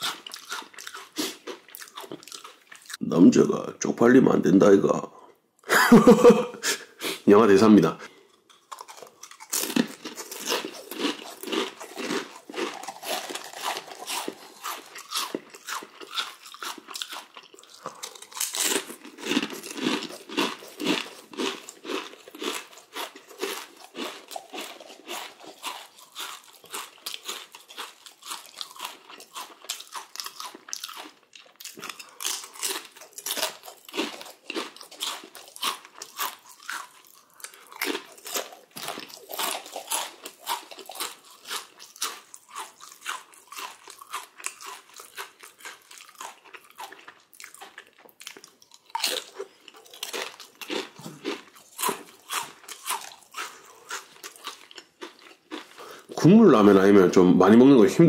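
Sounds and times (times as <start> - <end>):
person chewing crunchy food: 0.0 - 3.0, 8.1 - 56.2.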